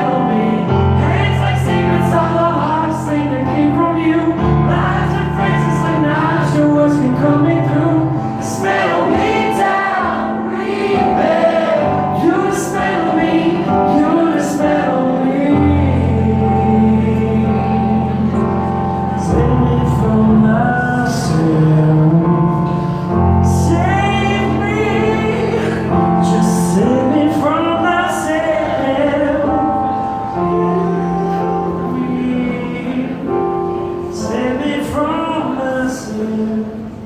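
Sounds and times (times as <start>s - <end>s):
sustained acoustic chords: 0.0s - 35.7s
person singing: 0.0s - 37.0s.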